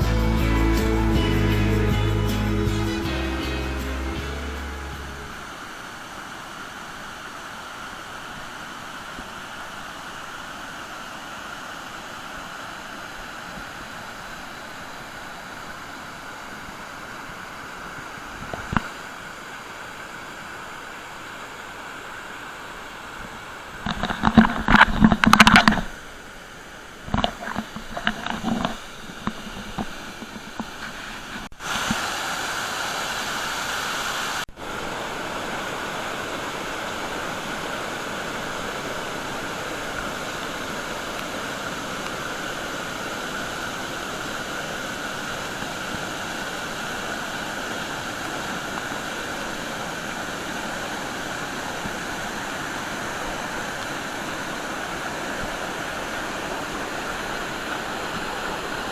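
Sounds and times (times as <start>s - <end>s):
waterfall rushing: 0.0s - 24.7s, 28.7s - 58.9s.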